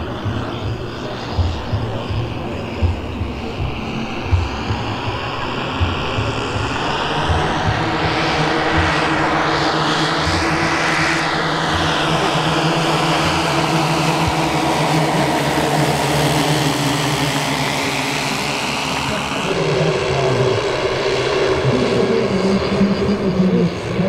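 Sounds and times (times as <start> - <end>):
model plane propeller drone: 0.0 - 24.0.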